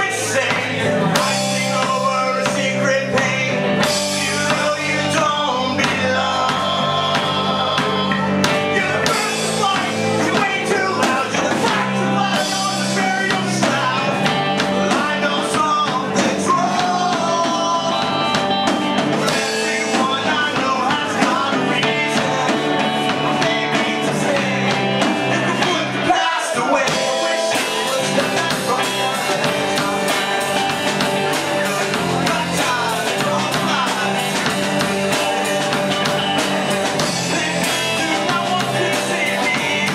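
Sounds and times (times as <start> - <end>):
drums: 0.0 - 39.9
guitar: 0.0 - 39.9
person singing into a microphone: 0.0 - 39.9.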